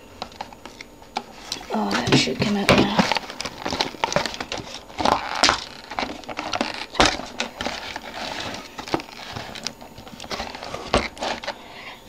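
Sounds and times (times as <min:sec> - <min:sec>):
packaging rustling: 0:00.2 - 0:11.9.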